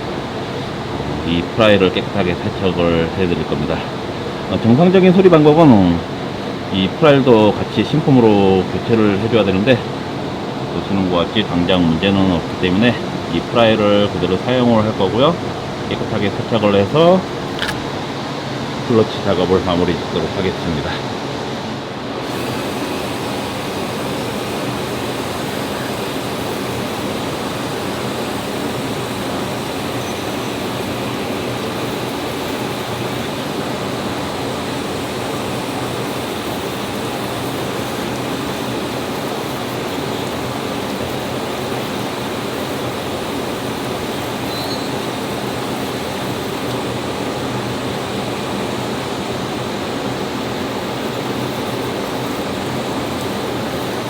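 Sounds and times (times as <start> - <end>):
pressurised cleaning jet hissing: 0.0 - 18.0, 22.0 - 54.0.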